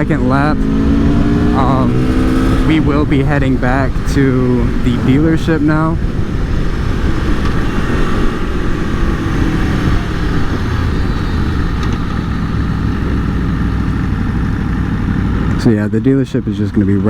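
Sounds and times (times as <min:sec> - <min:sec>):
motorcycle engine running: 0:00.0 - 0:17.0
rush of riding noise: 0:00.0 - 0:17.0.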